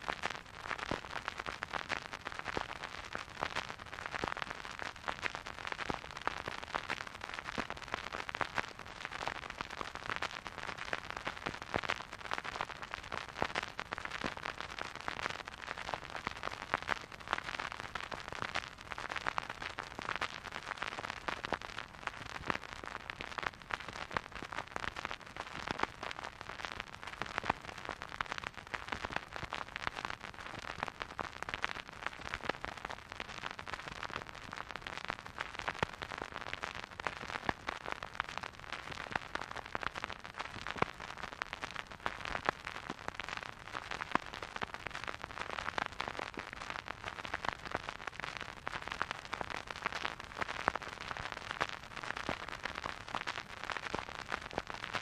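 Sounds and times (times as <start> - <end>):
vinyl record crackle: 0.0 - 55.0.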